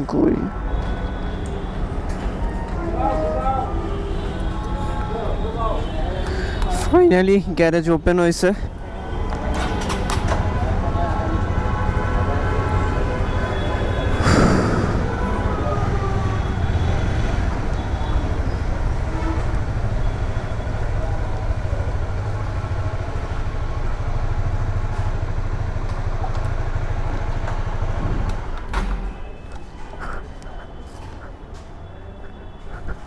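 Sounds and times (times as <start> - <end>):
traffic engines rumbling: 0.0 - 33.0.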